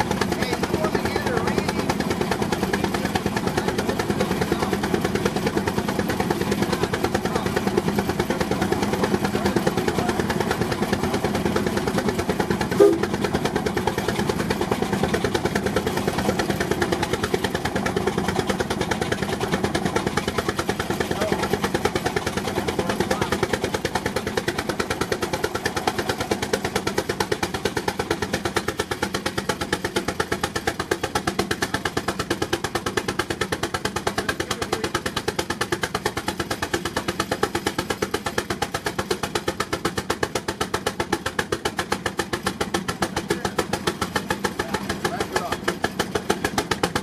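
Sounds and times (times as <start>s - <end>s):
steam engine exhaust beating: 0.0s - 47.0s.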